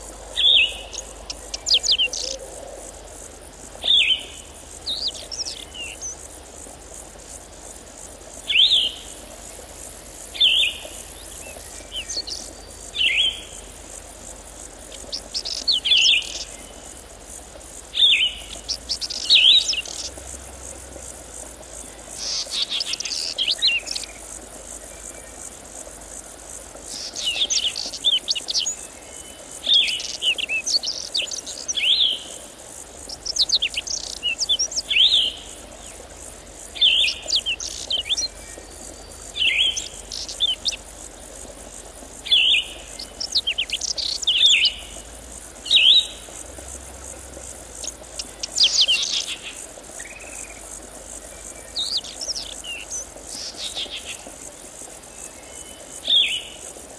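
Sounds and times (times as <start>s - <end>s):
insects chirring: 0.0s - 56.9s
songbird singing: 0.0s - 56.9s.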